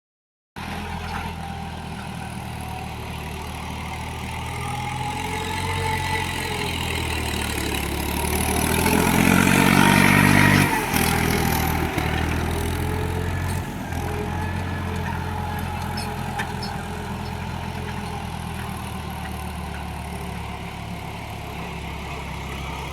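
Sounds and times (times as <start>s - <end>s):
tractor diesel engine under load: 0.6s - 22.9s.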